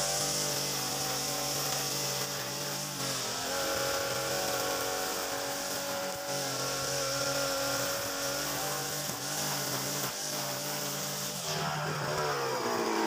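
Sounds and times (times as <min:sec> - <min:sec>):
brush cutter engine running: 0:00.0 - 0:13.0
trimmer line whirring through grass: 0:00.0 - 0:13.0.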